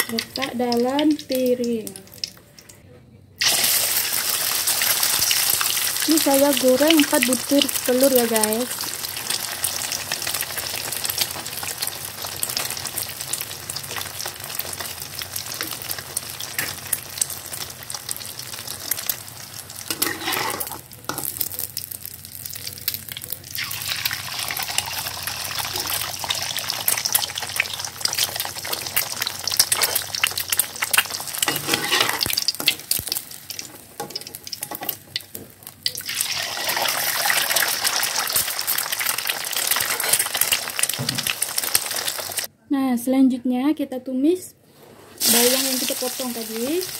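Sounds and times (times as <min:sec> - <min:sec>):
eggs sizzling in hot oil: 0:00.0 - 0:02.8, 0:03.4 - 0:42.5, 0:45.2 - 0:46.9.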